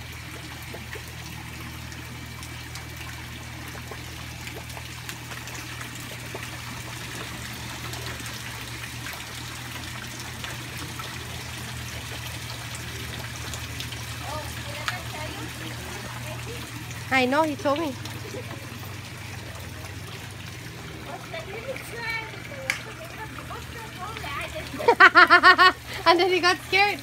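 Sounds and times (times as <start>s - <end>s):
fountain water trickling into pond: 0.0s - 27.0s
low steady hum: 0.0s - 27.0s
small water splashes: 0.0s - 27.0s.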